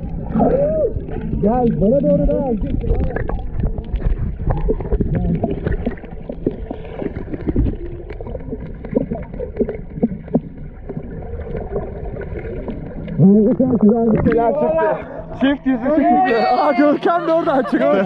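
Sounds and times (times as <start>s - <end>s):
seawater sloshing and gurgling: 0.0s - 18.0s.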